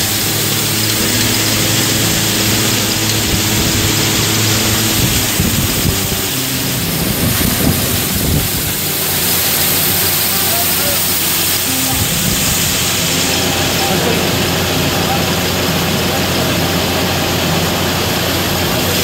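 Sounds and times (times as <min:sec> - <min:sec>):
combine harvester engine hum: 0:00.0 - 0:19.0
threshing machinery noise: 0:00.0 - 0:19.0.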